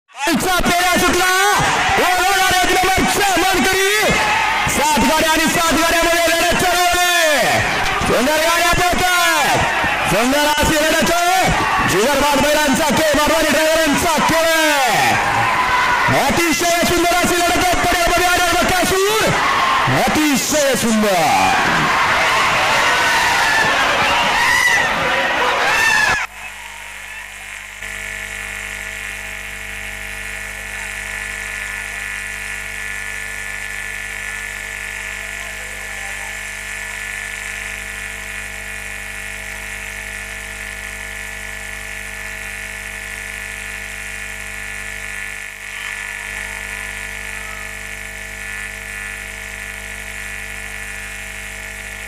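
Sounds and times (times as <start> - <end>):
steady electric buzz: 0.2 - 52.0.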